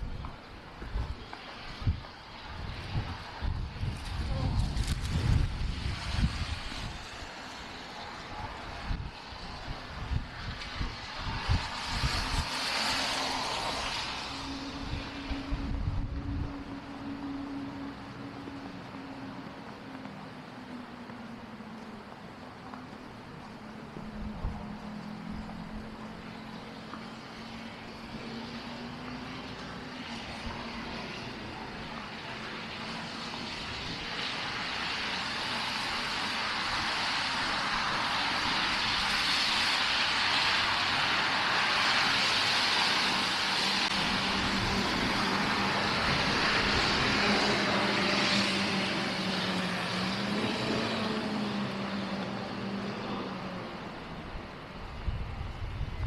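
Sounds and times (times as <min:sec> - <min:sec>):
vehicle passing by: 0:01.6 - 0:21.2, 0:22.7 - 0:56.0.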